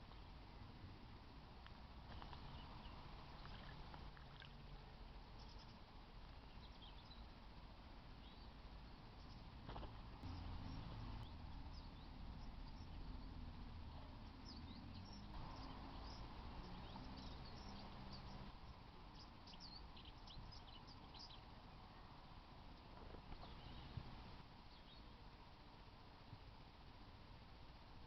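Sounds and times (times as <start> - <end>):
low steady rumble: 0.0 - 28.0
small birds chirping: 1.5 - 28.0.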